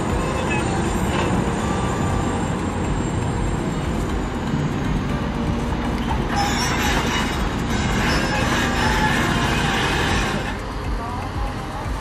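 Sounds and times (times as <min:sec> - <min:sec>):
heavy diesel machinery running: 0:00.0 - 0:12.0.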